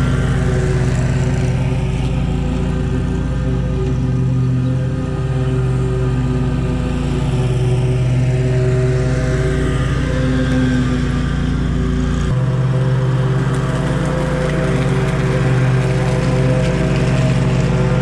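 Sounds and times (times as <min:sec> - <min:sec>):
small petrol engine running: 0:00.0 - 0:18.0.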